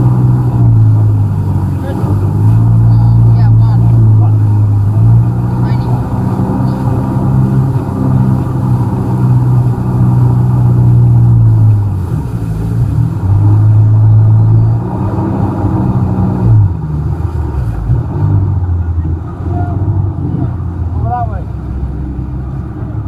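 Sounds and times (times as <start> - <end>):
jet ski engine running: 0.0 - 23.0.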